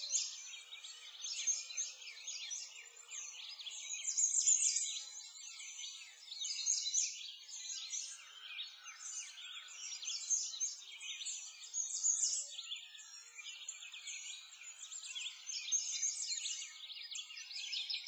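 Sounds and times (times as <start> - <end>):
songbirds chirping and twittering: 0.0 - 18.0.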